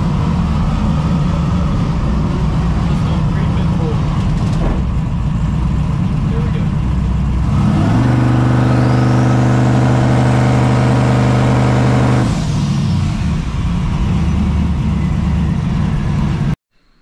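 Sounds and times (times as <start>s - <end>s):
car engine idling and revving: 0.0s - 16.6s.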